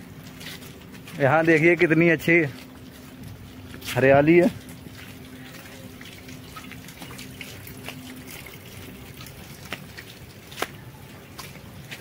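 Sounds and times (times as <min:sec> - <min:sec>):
rainwater dripping and trickling: 0:00.0 - 0:12.0.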